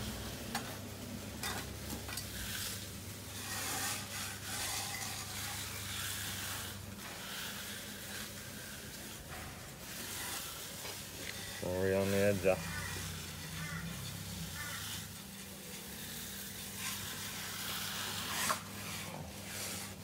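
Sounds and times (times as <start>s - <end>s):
low steady hum: 0.0s - 20.0s
edger scraping wet concrete: 1.4s - 20.0s.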